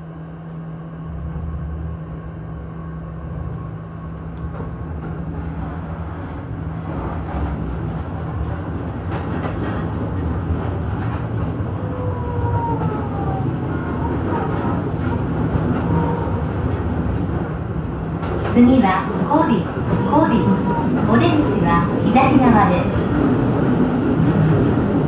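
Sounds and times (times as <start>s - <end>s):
electric train rumble and hum: 0.0s - 25.0s.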